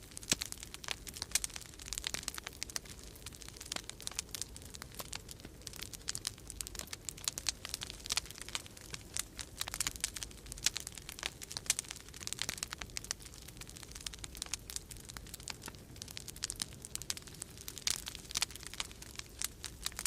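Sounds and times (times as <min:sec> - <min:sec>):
wood fire crackling: 0:00.0 - 0:20.0
wind rumbling: 0:00.1 - 0:20.0.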